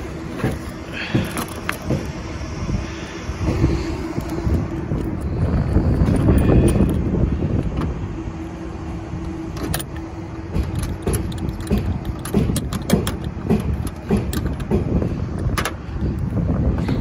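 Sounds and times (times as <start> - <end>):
microphone handling rumble: 0.0 - 8.2, 9.1 - 17.0
wind on microphone: 0.0 - 17.0.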